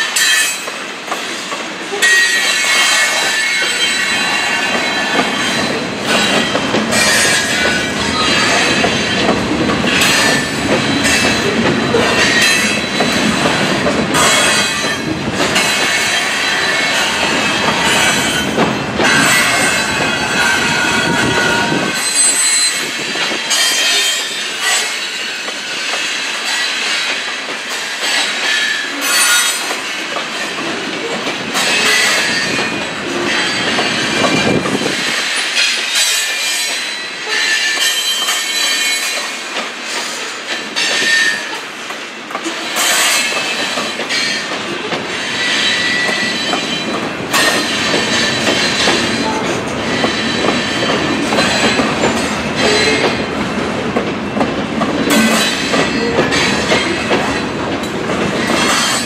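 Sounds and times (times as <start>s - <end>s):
train wheels clacking over joints: 0.0s - 59.0s.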